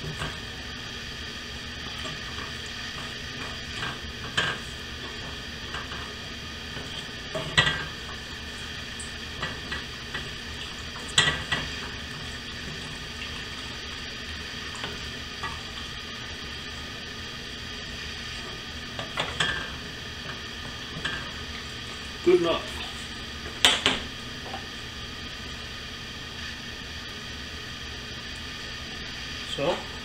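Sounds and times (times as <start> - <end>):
pan sizzling: 0.0 - 26.7.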